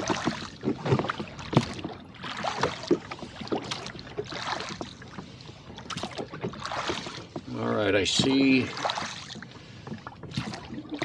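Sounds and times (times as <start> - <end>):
oars splashing in water: 0.0 - 11.0.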